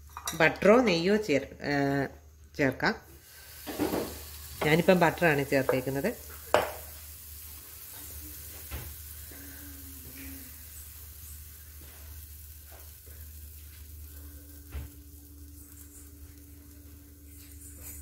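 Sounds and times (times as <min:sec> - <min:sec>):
batter sizzling in a frying pan: 0:03.1 - 0:18.0.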